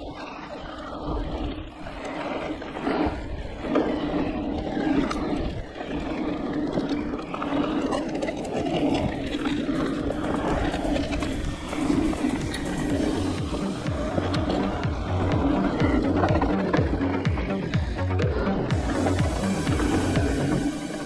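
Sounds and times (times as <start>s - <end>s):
wind rumbling on microphone: 0.0s - 21.0s
tyres rattling over dirt: 0.9s - 21.0s.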